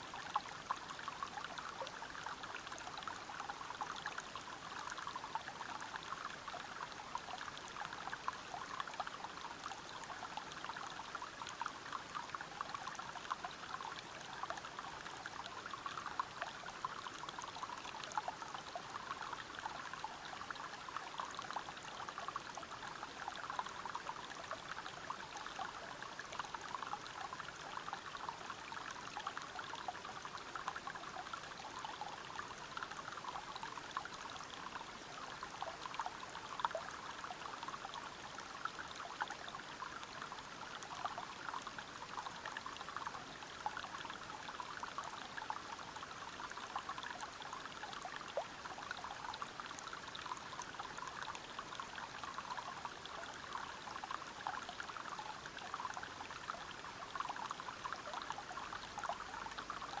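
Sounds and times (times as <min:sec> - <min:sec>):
water flowing over rocks: 0:00.0 - 1:00.0.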